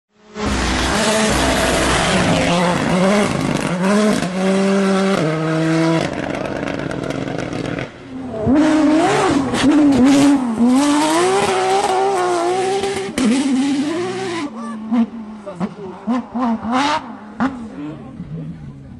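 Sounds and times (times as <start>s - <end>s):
rally car engine revving: 0.2s - 18.9s.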